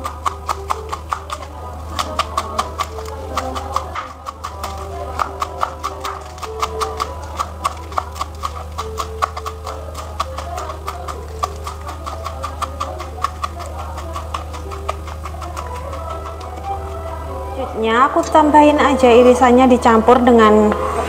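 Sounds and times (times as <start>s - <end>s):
knife chopping on cutting board: 0.0s - 17.2s.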